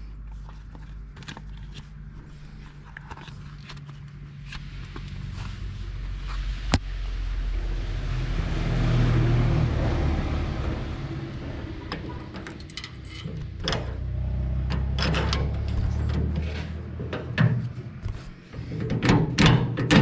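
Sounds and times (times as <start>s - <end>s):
tractor engine running: 3.8s - 20.0s.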